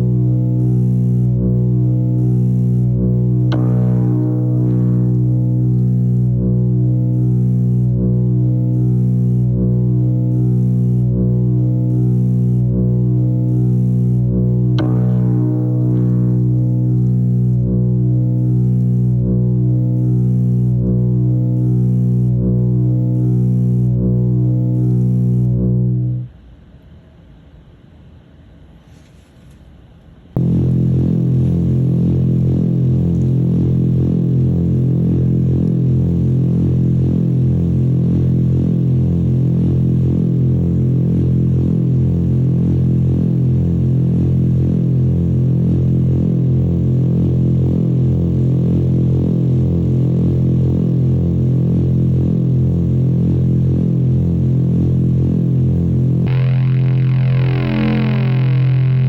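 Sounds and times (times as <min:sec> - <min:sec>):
low hum with slow throb: 0:00.0 - 0:26.5, 0:30.4 - 0:59.0.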